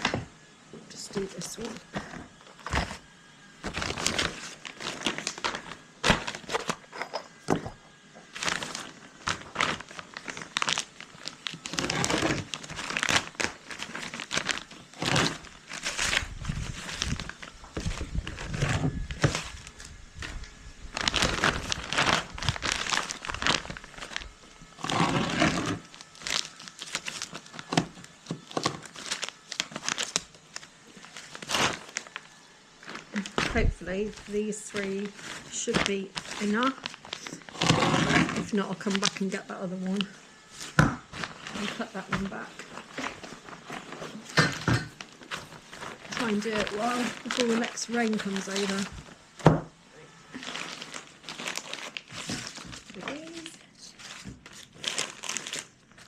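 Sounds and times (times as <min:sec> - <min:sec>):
plastic sheeting crinkling: 0:00.9 - 0:06.8, 0:08.2 - 0:56.0.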